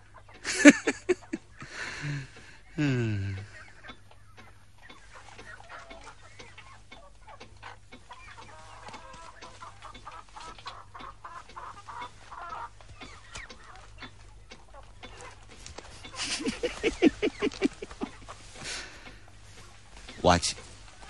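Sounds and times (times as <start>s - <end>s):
chickens clucking: 0.0s - 21.0s
low electrical hum: 0.0s - 21.0s.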